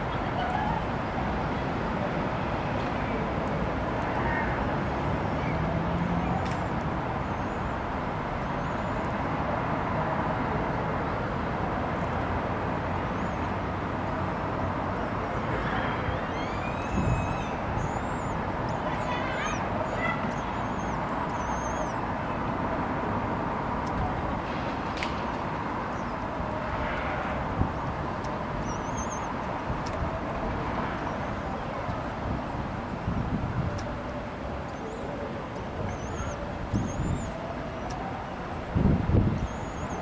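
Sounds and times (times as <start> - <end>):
urban traffic hum: 0.0 - 40.0.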